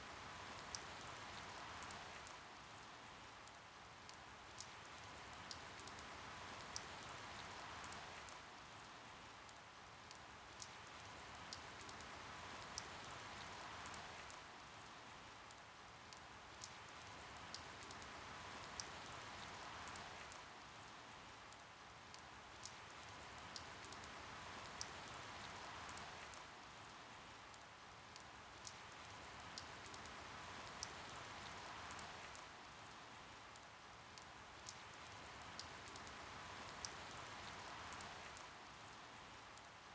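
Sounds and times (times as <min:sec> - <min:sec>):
faint steady rain: 0:00.0 - 0:39.9.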